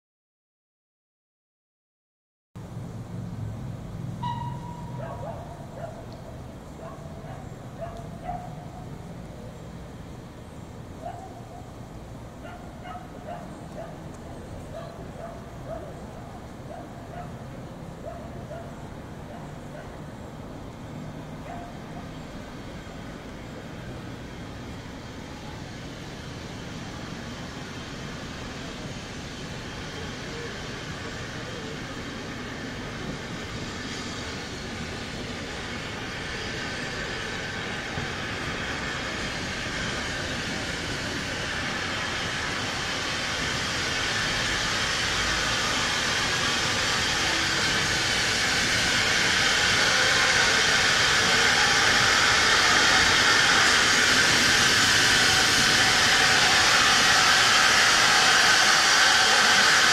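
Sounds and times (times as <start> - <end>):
steam locomotive approaching: 2.6 - 59.9
steam hissing: 3.9 - 59.9.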